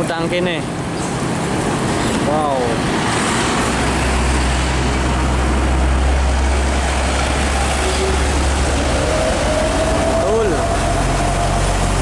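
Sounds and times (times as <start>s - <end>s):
truck engine drone: 0.0s - 12.0s
tyre and road noise: 0.0s - 12.0s.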